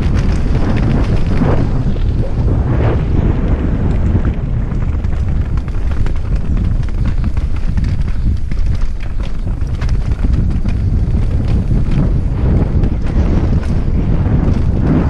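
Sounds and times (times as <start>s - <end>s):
bike clicks and rattles: 0.0s - 15.0s
wind rumble on microphone: 0.0s - 15.0s.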